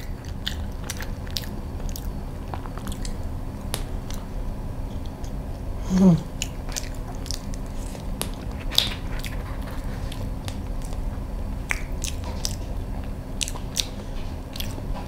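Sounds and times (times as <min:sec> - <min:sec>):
chewing with wet mouth clicks: 0:00.0 - 0:04.3, 0:06.3 - 0:15.0.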